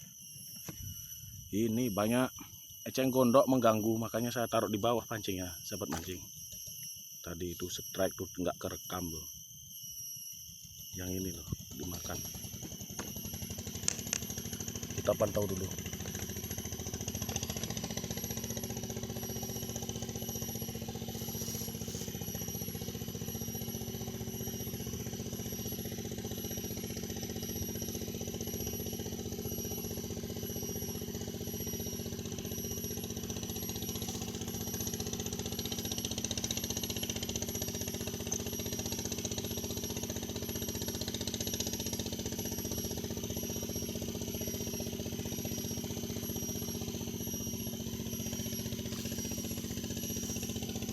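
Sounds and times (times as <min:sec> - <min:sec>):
thin high whine: 0:00.0 - 0:50.9
steady engine-like drone: 0:00.8 - 0:06.3, 0:10.9 - 0:50.9.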